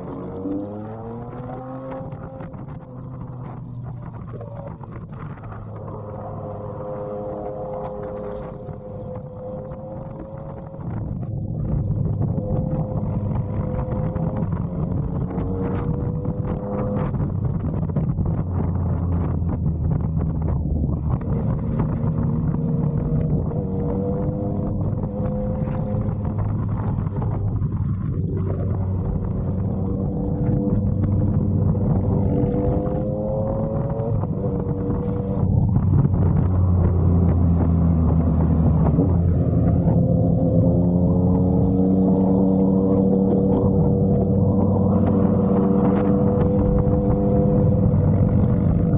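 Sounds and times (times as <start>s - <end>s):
motorcycle engine and exhaust: 0.0s - 48.9s
wind noise on microphone: 0.0s - 48.9s.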